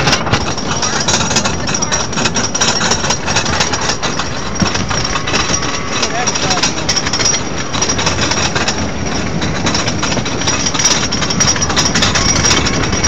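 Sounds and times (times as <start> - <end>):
roller coaster train rattling: 0.0 - 13.0.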